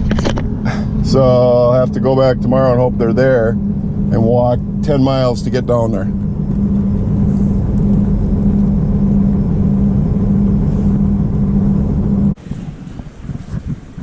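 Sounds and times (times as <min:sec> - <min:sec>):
car engine and road noise: 0:00.0 - 0:14.0
faint rushing noise: 0:00.0 - 0:14.0.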